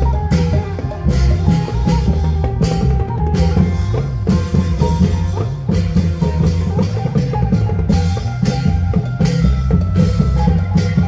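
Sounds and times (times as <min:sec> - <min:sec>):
drum band playing dance music: 0:00.0 - 0:11.0.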